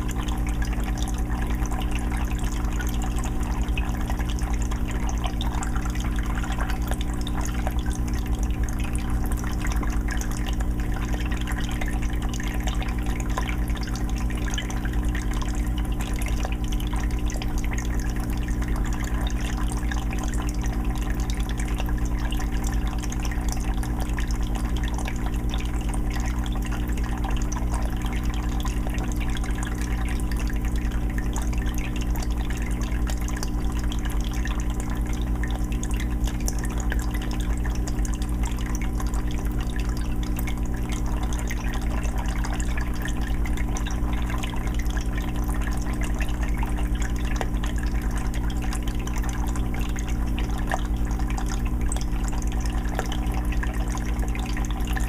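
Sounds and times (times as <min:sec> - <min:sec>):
low filter hum: 0:00.0 - 0:55.0
water trickling into fish tank: 0:00.0 - 0:55.0.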